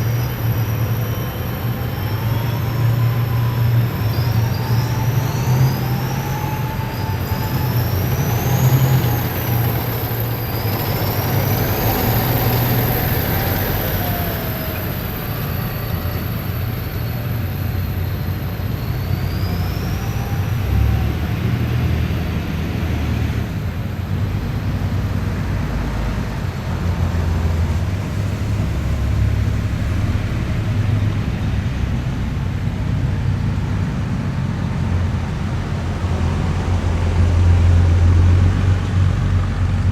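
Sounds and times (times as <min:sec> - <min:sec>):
heavy vehicles engine rumble: 0:00.0 - 0:39.9.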